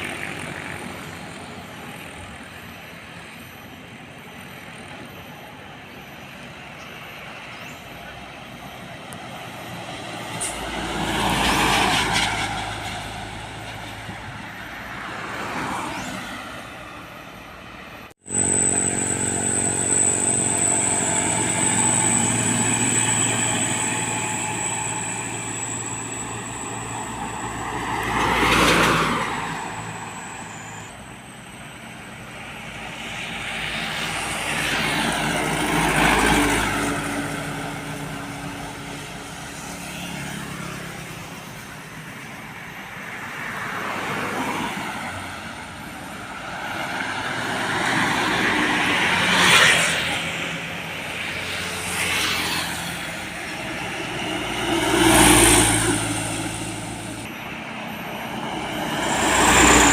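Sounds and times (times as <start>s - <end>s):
truck engine running nearby: 0.0s - 15.2s, 15.8s - 43.2s, 45.0s - 59.9s
trucks passing on road: 0.0s - 59.9s.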